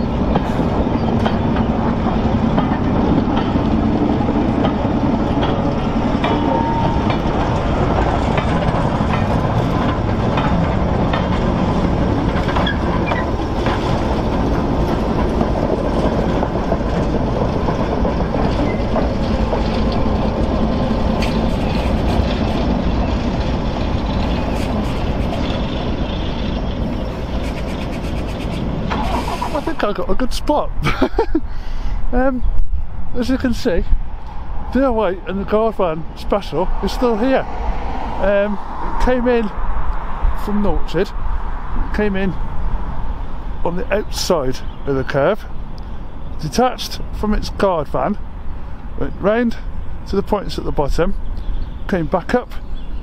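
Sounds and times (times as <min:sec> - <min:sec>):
diesel locomotive engine hum: 0:00.0 - 0:53.0.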